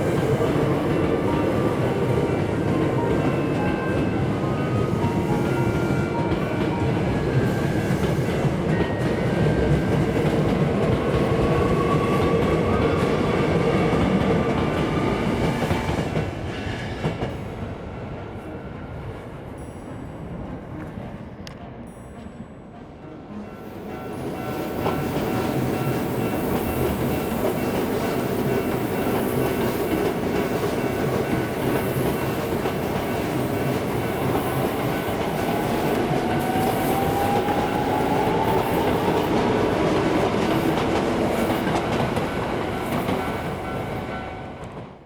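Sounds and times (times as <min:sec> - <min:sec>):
train wheels rumbling on rails: 0:00.0 - 0:22.1, 0:23.6 - 0:45.0.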